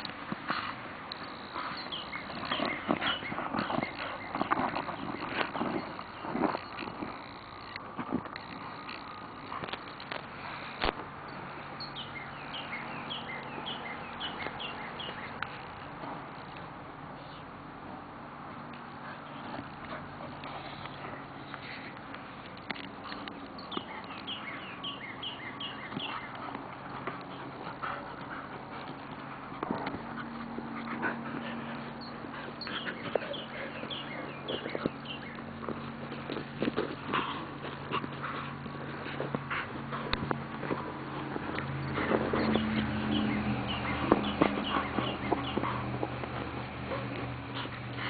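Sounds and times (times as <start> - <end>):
dog scuffling on dirt: 0.0 - 16.8, 18.8 - 48.0.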